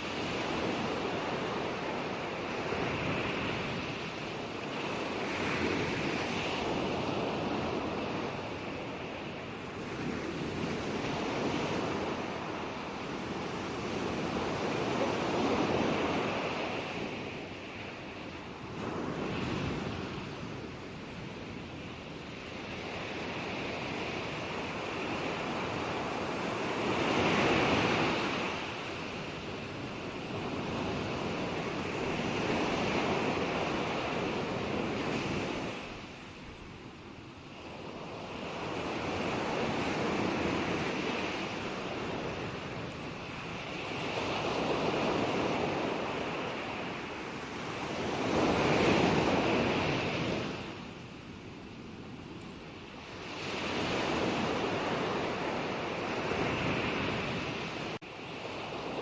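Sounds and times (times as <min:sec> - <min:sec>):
ocean waves breaking ashore: 0:00.0 - 0:59.0.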